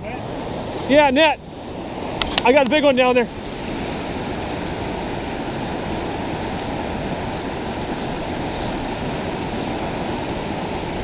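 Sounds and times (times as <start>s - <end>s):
river water rushing past rocks: 0.0s - 11.0s.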